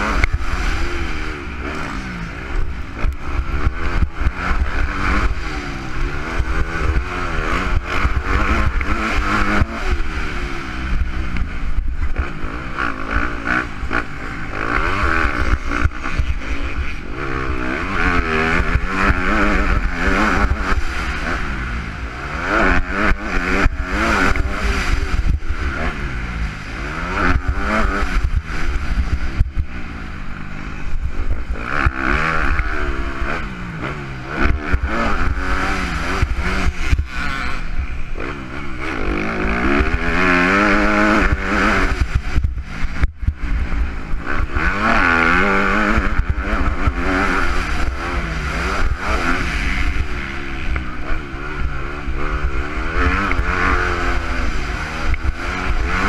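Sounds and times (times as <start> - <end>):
motorbike engine revving: 0.0 - 56.0
wind rumble on microphone: 0.0 - 56.0.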